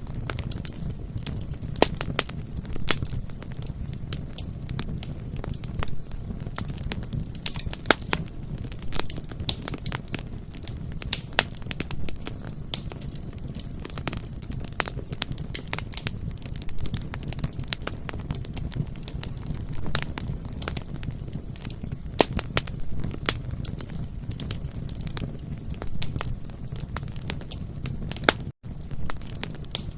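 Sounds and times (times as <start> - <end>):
low rumble of flames: 0.0 - 29.9
wood crackling and popping: 0.0 - 29.9.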